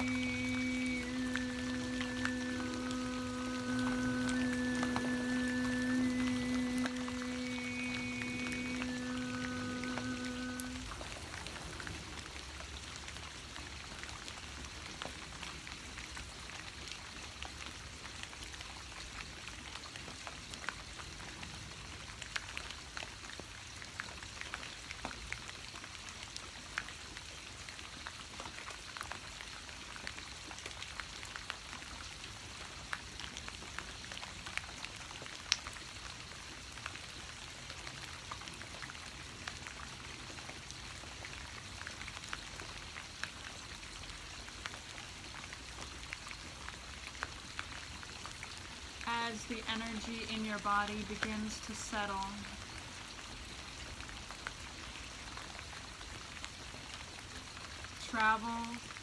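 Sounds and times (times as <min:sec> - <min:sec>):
raindrops ticking: 0:00.0 - 0:59.0
steady rain falling: 0:00.0 - 0:59.0.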